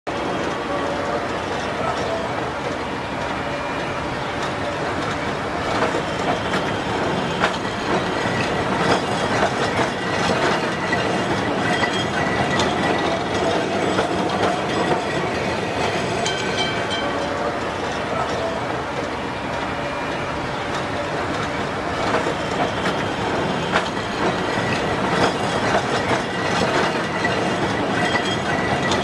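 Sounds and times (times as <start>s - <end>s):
tram rumbling on rails: 0.1s - 29.0s.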